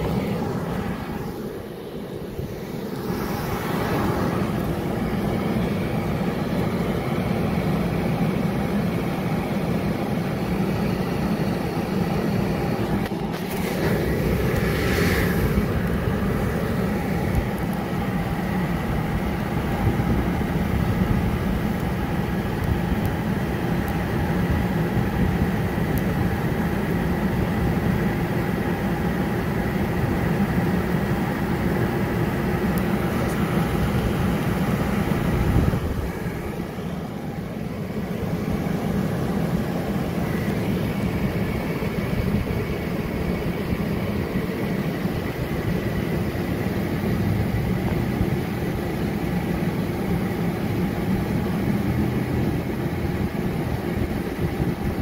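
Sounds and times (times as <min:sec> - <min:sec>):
blower whirring drone: 0:00.0 - 0:55.0.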